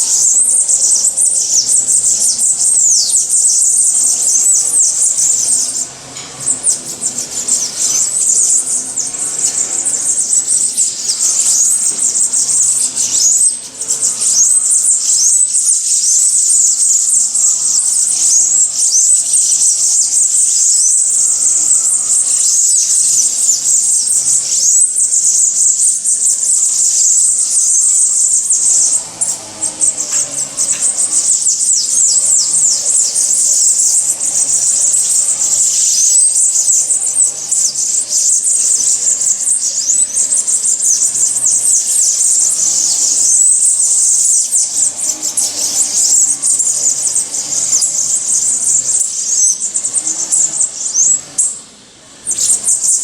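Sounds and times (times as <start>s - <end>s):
faint bird song: 0.0s - 53.0s
small birds chirping: 0.0s - 53.0s.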